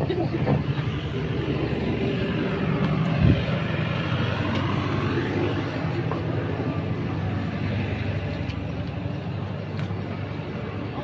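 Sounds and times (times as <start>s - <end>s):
road train engine running: 0.0s - 11.0s.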